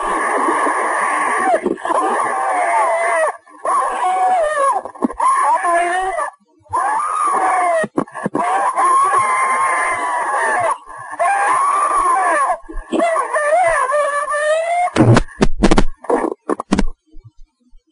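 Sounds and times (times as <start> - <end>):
elderly woman screaming: 0.2 - 15.0.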